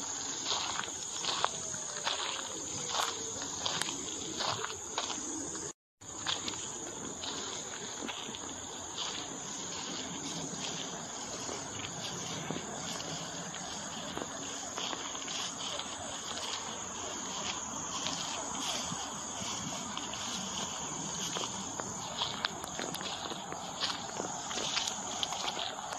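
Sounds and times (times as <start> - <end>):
footsteps on a path: 0.0 - 25.9
insects chirring: 0.0 - 25.9.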